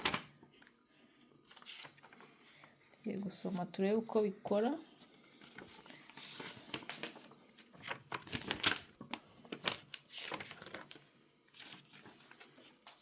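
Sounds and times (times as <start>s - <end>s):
paper rustling and crinkling: 0.0s - 0.8s, 1.4s - 3.6s, 5.0s - 13.0s.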